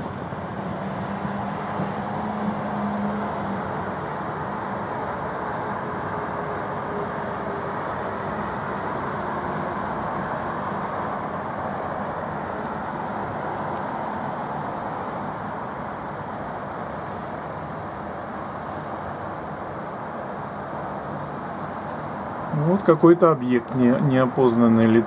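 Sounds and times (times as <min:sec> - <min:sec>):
city traffic hum: 0:00.0 - 0:25.0.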